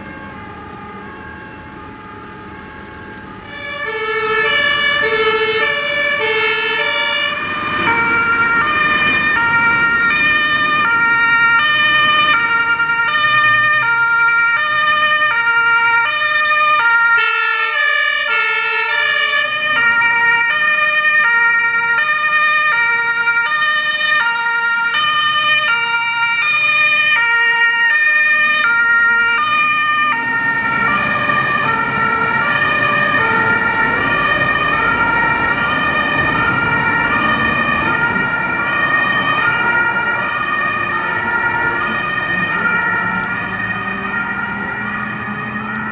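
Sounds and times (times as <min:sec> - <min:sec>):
truck engine and tyres: 0:00.0 - 0:45.9
two-tone fire truck siren: 0:00.0 - 0:45.9.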